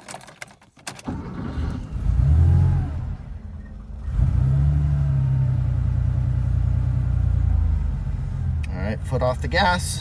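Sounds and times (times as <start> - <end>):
car engine starting and revving: 1.1 - 10.0.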